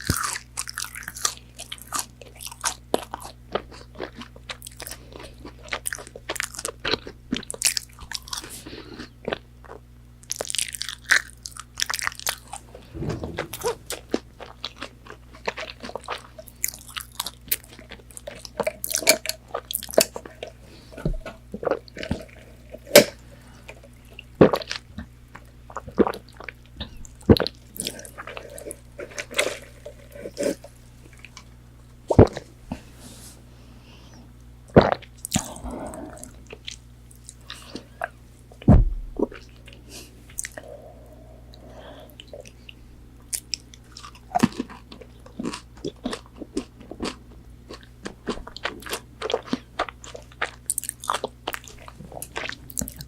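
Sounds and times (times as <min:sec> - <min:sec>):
chewing crispy fried chicken: 0:00.0 - 0:12.8, 0:14.4 - 0:32.5, 0:34.4 - 0:53.0.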